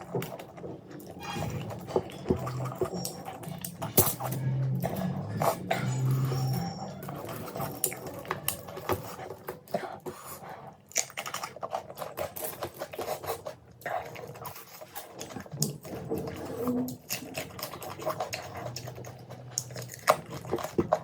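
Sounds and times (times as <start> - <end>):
crisp chewing crunches: 0.0 - 21.0.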